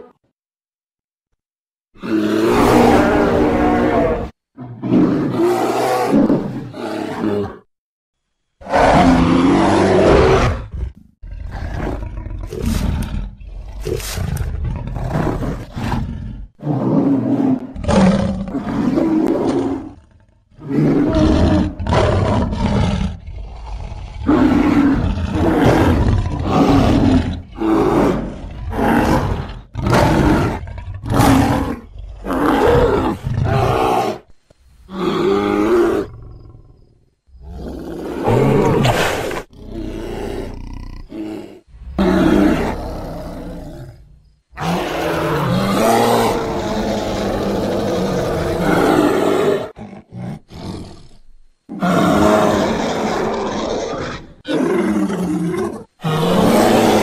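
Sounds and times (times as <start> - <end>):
animal roars and growls: 2.0 - 7.7, 8.6 - 57.0.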